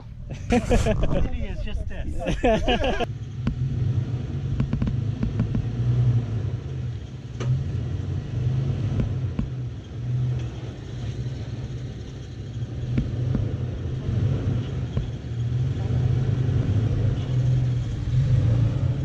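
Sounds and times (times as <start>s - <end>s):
truck engine at low revs: 0.0s - 19.0s.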